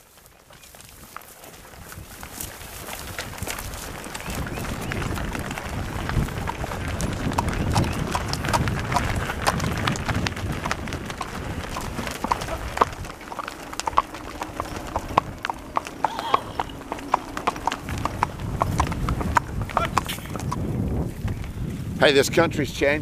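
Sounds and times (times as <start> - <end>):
cattle hooves on road: 0.0 - 23.0
horse hooves clopping on asphalt: 0.0 - 23.0.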